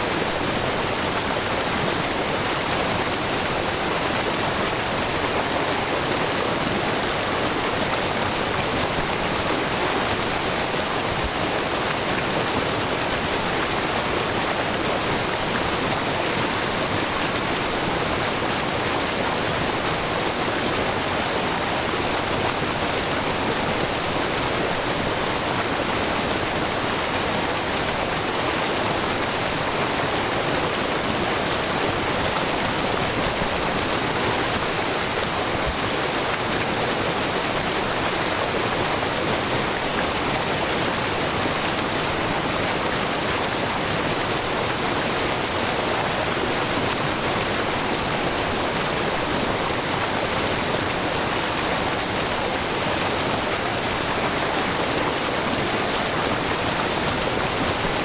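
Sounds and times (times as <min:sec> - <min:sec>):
waterfall splashing: 0:00.0 - 0:58.0.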